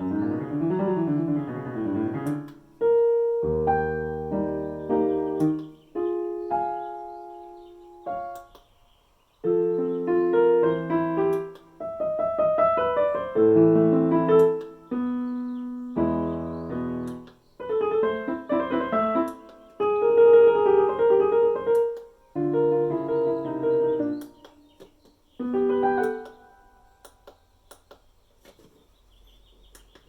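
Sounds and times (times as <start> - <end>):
digital piano chords and runs: 0.0 - 27.0.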